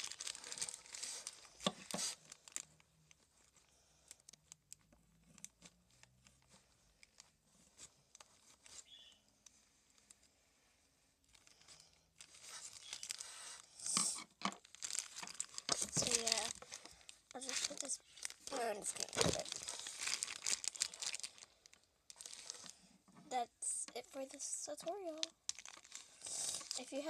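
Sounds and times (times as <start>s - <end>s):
paper crinkling: 0.0s - 10.3s, 11.3s - 13.6s, 14.5s - 22.9s, 24.2s - 27.0s
faint clicks and rustles: 0.0s - 10.4s, 11.2s - 27.0s.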